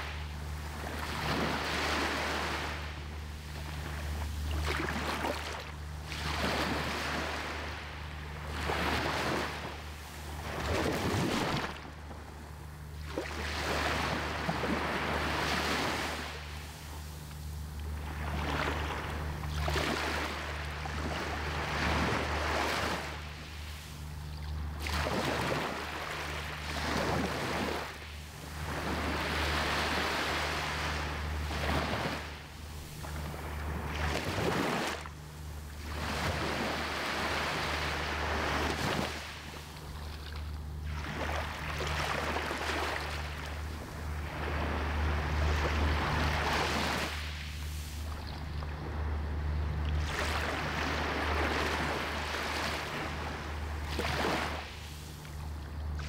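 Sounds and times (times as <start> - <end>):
small waves breaking on beach: 0.0 - 12.2, 13.0 - 17.1, 17.9 - 24.1, 24.7 - 49.0, 49.8 - 56.0
steady low rumble: 0.0 - 56.0.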